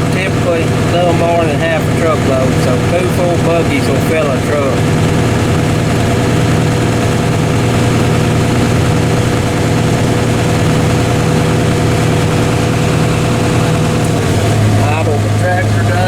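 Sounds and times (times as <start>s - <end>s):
steady auger whine: 0.0s - 16.0s
tractor engine running: 0.0s - 16.0s.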